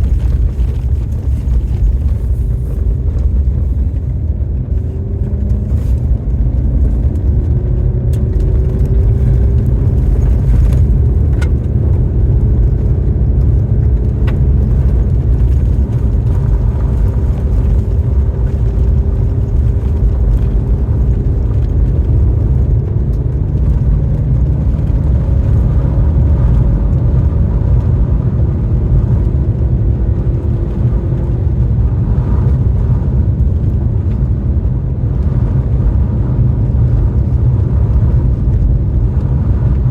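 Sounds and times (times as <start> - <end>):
car road and engine rumble: 0.0 - 39.9
faint engine hum: 0.0 - 39.9.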